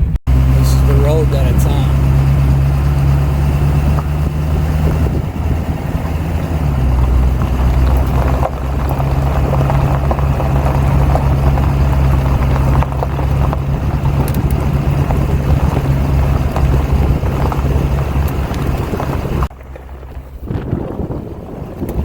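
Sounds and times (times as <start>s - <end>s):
vehicle engine and road drone: 0.0s - 22.0s
wind noise: 0.0s - 22.0s
tyres crackling on gravel: 0.3s - 22.0s.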